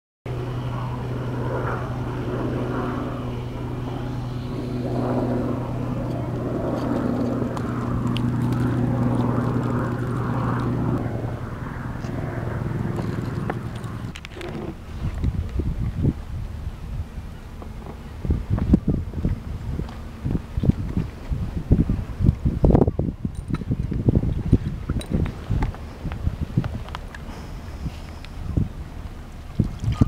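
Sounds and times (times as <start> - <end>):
low motor hum: 0.3 - 30.0
wind noise: 0.3 - 30.0.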